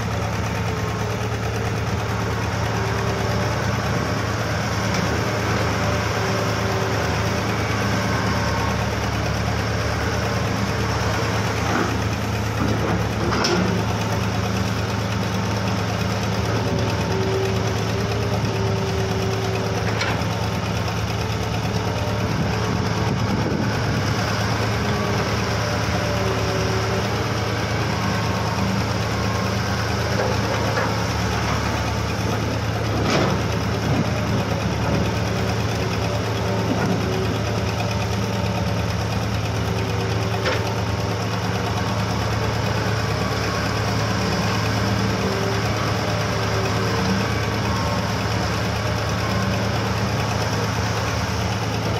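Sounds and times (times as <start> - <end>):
excavator diesel engines: 0.0 - 51.9.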